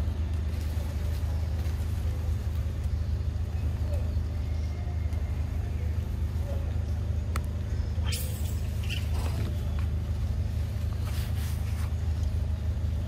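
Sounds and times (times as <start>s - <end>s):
branches and leaves rustling: 0.0s - 13.0s
steady low hum: 0.0s - 13.0s.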